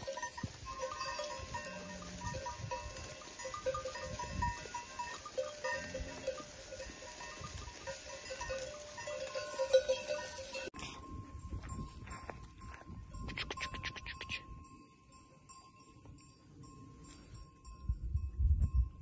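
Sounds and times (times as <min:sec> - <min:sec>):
sheep bells clanking: 0:00.0 - 0:19.0.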